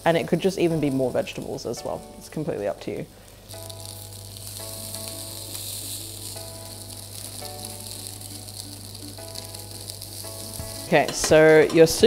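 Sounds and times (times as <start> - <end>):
meat sizzling in a grill pan: 0.1 - 12.0.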